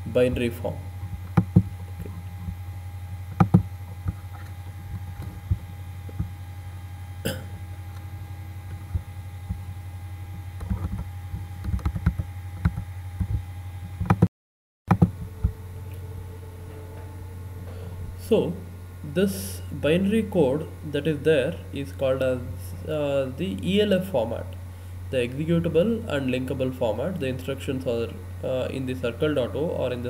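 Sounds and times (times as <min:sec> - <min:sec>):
low hum: 0:00.0 - 0:14.2, 0:14.9 - 0:30.0.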